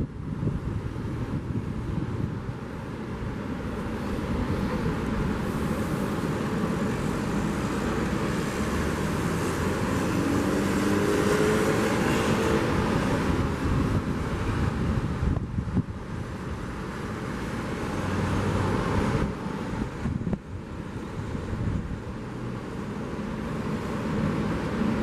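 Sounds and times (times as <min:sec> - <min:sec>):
car passing: 0:00.0 - 0:25.0
ocean surf: 0:00.0 - 0:25.0.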